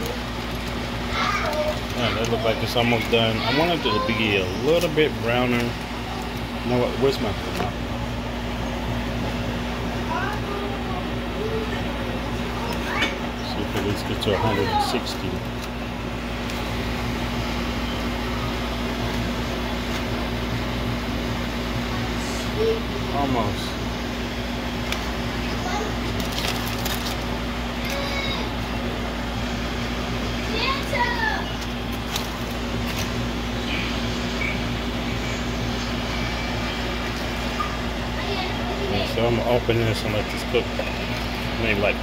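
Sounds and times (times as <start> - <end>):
appliance fan humming: 0.0 - 42.0.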